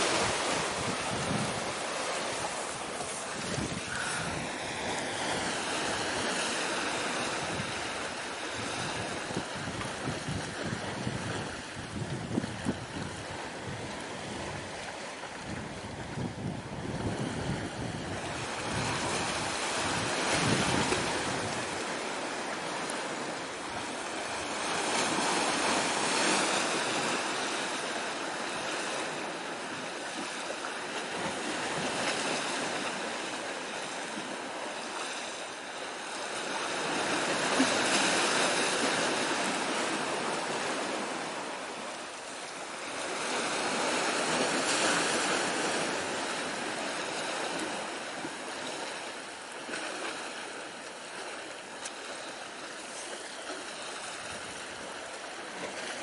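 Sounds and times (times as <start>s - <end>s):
sea waves washing ashore: 0.0s - 56.0s.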